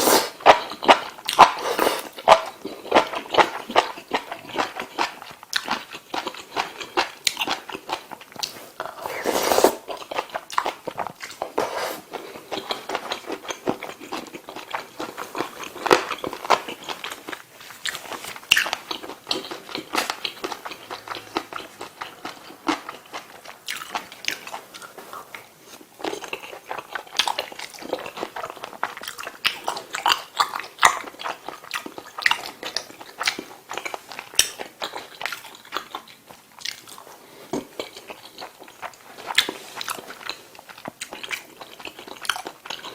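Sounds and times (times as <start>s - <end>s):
chewing with wet mouth smacks: 0.4s - 8.9s, 9.8s - 42.9s.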